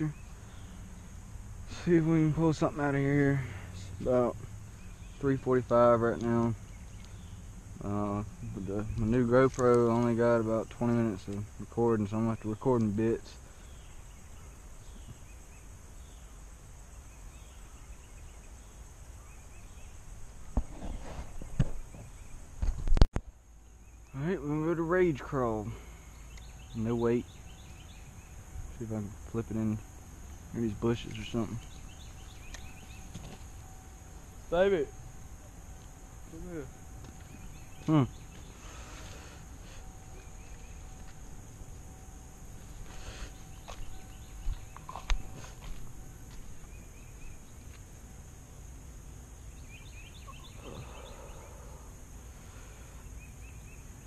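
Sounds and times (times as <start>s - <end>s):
faint bird chirps: 0.0s - 22.6s, 23.3s - 47.8s, 49.3s - 54.0s
high insect drone: 0.0s - 54.0s.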